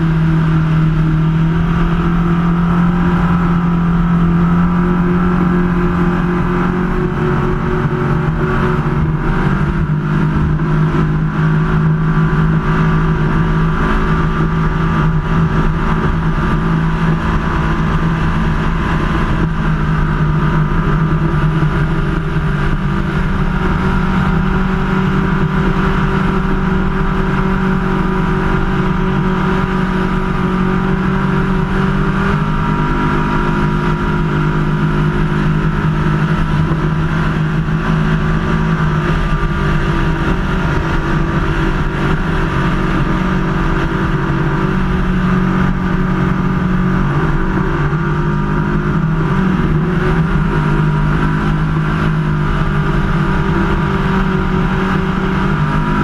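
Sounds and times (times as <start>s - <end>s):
boat engine at high revs: 0.0s - 56.0s.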